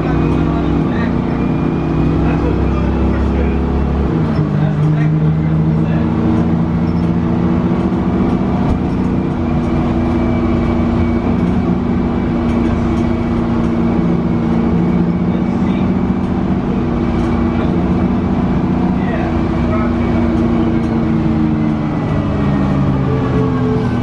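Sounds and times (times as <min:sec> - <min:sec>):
diesel bus engine running: 0:00.0 - 0:24.0
road rumble: 0:00.0 - 0:24.0.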